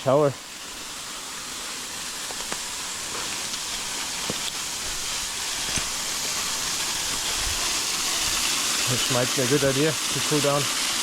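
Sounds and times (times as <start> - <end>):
waterfall splashing: 0.0 - 11.0.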